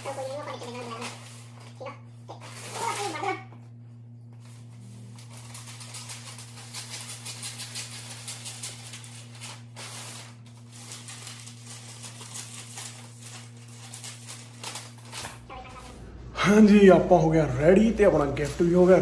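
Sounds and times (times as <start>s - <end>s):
paper or plastic crinkling: 0.0s - 3.3s, 4.4s - 16.2s, 17.8s - 19.0s
steady low hum: 0.0s - 19.0s.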